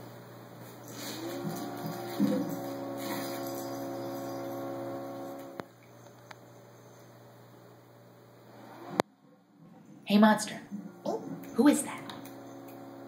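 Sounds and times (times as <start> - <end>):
faint low electrical hum: 0.0 - 13.0
hum of held tones: 0.2 - 10.0, 10.6 - 13.0.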